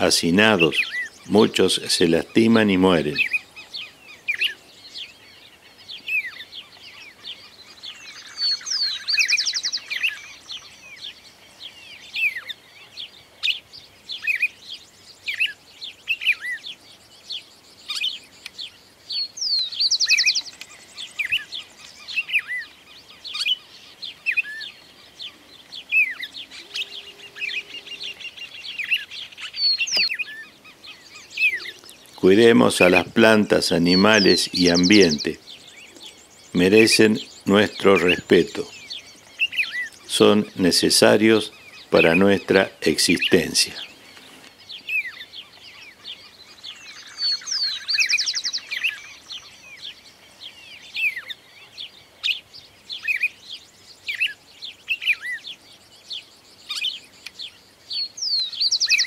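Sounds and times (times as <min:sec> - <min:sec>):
buzzy bird trill: 0:00.0 - 0:59.0
songbirds chirping: 0:00.0 - 0:59.0.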